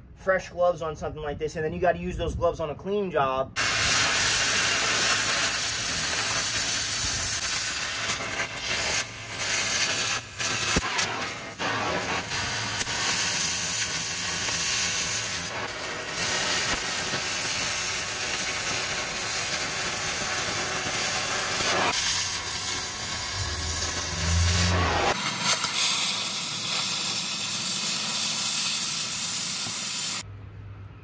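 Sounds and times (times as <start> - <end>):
cutting torch hissing: 3.6 - 30.2.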